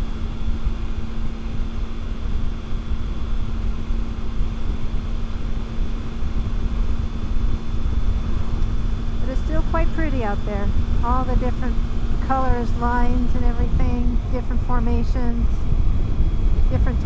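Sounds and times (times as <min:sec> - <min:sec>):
motorcycle engine hum: 0:00.0 - 0:17.0
wind buffeting microphone: 0:00.0 - 0:17.0.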